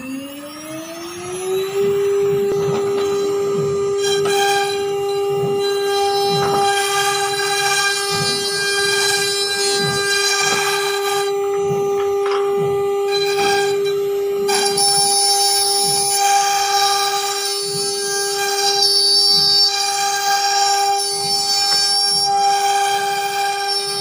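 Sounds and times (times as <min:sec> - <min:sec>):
router spindle whine: 0:00.0 - 0:24.0.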